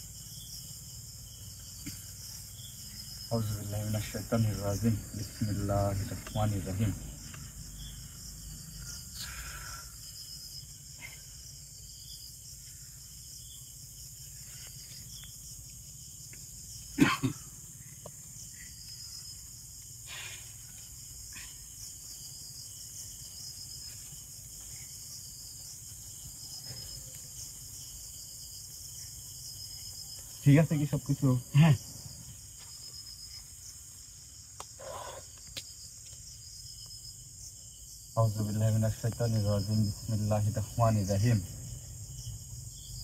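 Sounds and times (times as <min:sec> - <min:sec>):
night insects chirping: 0:00.0 - 0:43.0.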